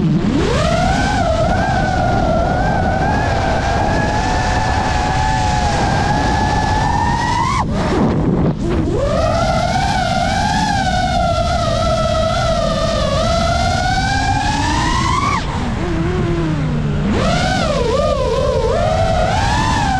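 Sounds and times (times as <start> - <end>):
quadcopter motors whining: 0.0 - 19.9
wind rushing over microphone: 0.0 - 19.9.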